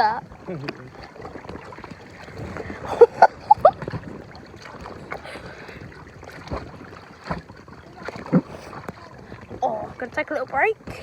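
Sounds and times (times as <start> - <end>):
water lapping around kayak: 0.0 - 11.0
wind on microphone: 0.0 - 11.0.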